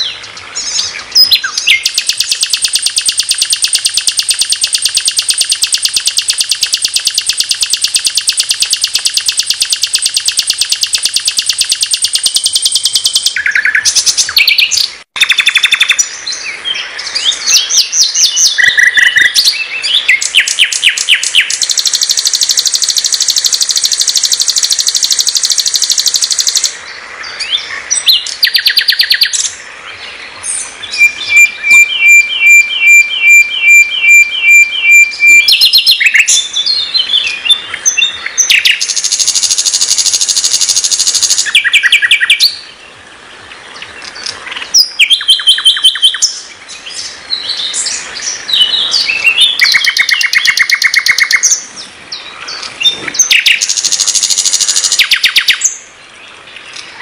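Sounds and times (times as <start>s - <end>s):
bird singing trills and whistles: 0.0s - 42.8s, 43.8s - 55.9s.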